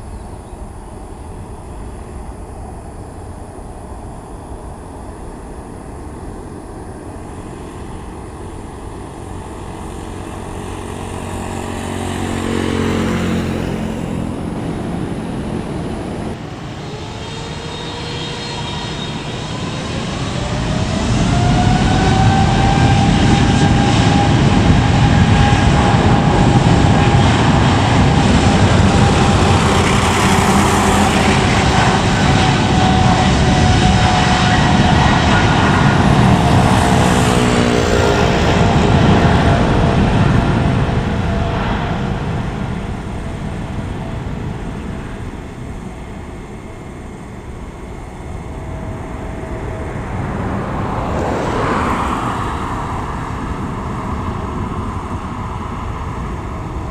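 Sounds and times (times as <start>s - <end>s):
airliner jet noise: 0.0s - 56.9s
jet engines spooling up: 0.0s - 56.9s.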